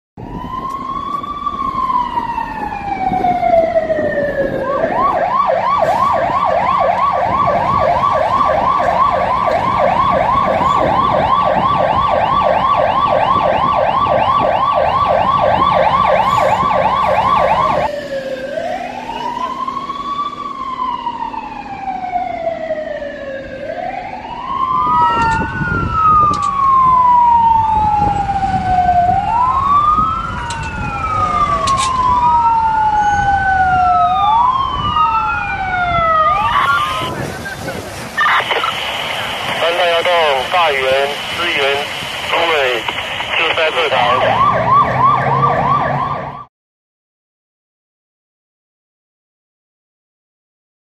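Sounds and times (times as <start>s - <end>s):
emergency siren wailing and yelping: 0.2s - 46.5s
second siren wailing: 0.2s - 46.5s.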